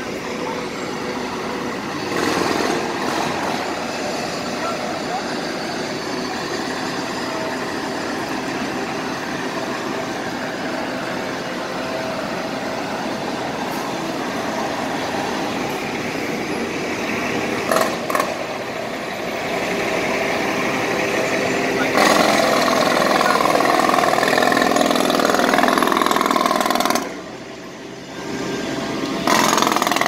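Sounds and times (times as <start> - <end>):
city traffic noise: 0.0 - 30.0.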